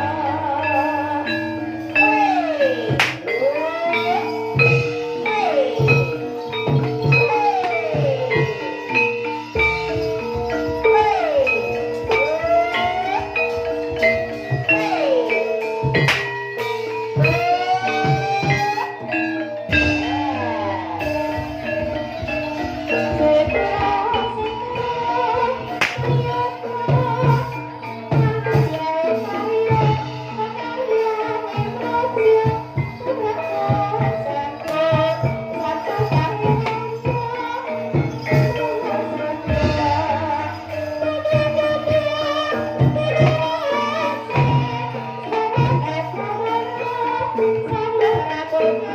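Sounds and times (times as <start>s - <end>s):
drum strokes: 0.0s - 48.9s
melody of held pitched notes: 0.0s - 48.9s
rattling percussion: 0.0s - 48.9s.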